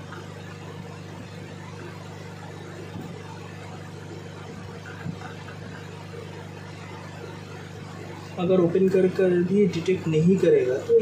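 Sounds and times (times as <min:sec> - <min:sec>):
hot-air station blowing: 0:00.0 - 0:11.0.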